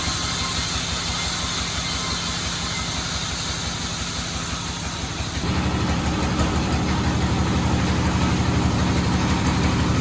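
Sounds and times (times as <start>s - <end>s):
sawmill engine running: 0.0s - 10.0s.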